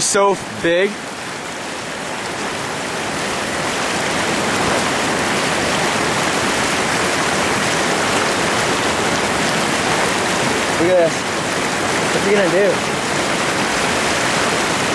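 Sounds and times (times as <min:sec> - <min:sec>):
river rapids rushing: 0:00.0 - 0:14.9.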